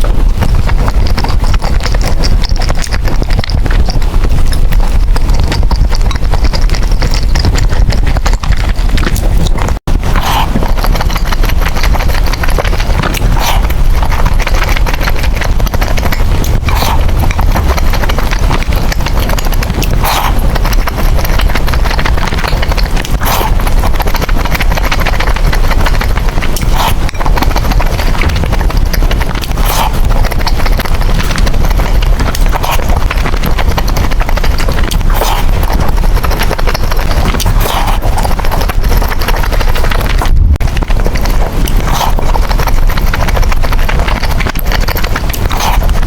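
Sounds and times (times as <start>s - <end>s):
noodle slurping: 0.0s - 46.0s
wet chewing and mouth clicks: 0.0s - 46.0s.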